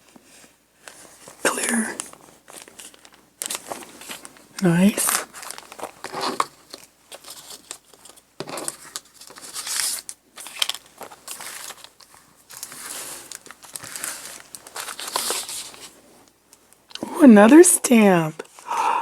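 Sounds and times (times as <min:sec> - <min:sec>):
paper crinkling and rustling: 0:00.0 - 0:16.8.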